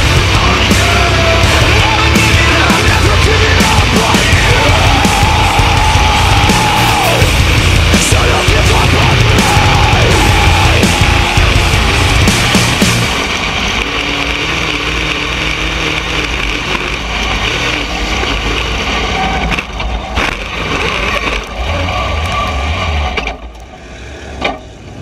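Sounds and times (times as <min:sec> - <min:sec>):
race car engine rattling: 0:00.0 - 0:25.0.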